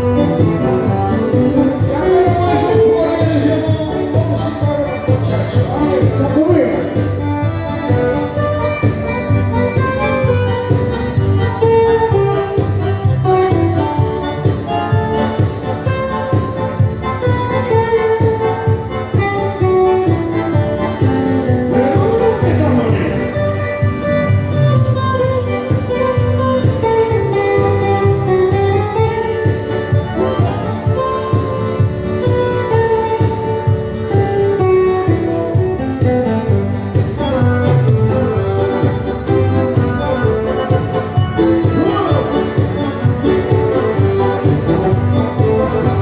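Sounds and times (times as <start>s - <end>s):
band playing dance music: 0.0s - 46.0s.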